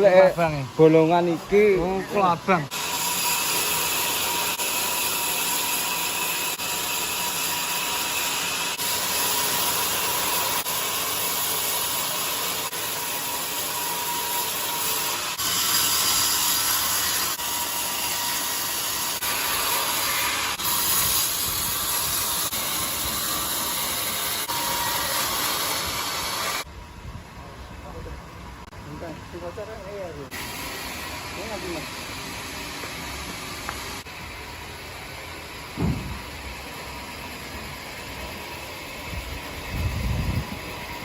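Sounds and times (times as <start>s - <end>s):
band saw cutting log: 0.0s - 26.7s, 30.3s - 41.0s.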